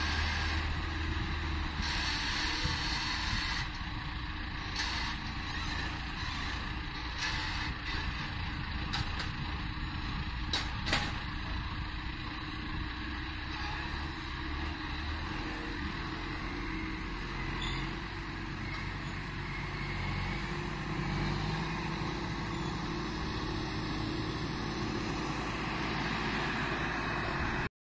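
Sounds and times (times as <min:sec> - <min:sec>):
heavy diesel machinery running: 0:00.0 - 0:27.7.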